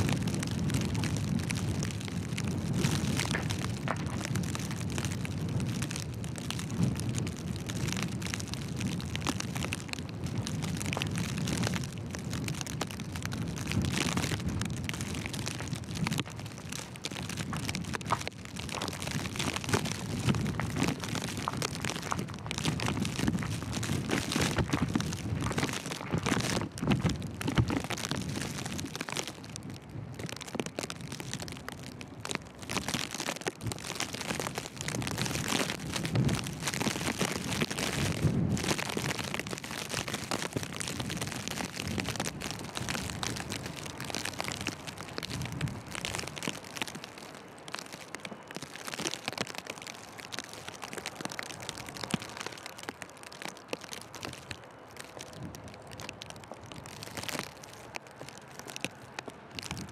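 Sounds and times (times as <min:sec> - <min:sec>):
wind gusting over microphone: 0:00.0 - 0:59.9.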